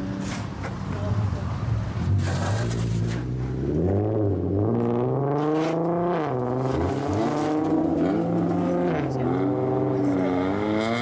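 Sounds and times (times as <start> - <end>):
car engines accelerating: 0.0 - 11.0.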